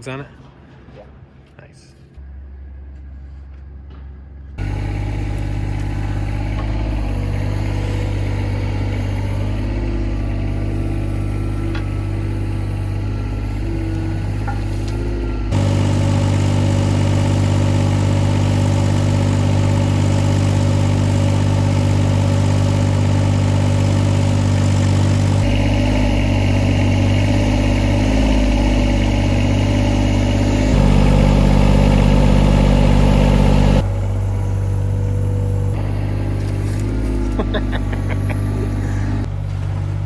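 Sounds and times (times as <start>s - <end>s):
excavator diesel engine running: 4.5s - 40.0s.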